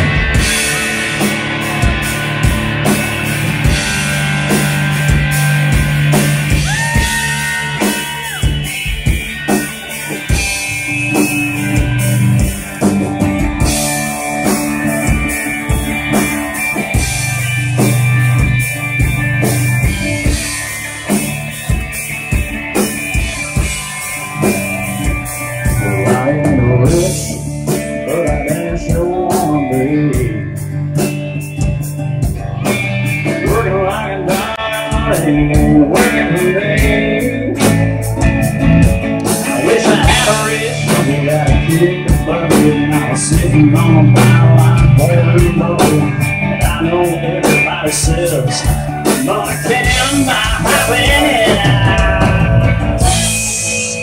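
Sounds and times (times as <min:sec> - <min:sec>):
country rock band playing: 0:00.0 - 0:54.0.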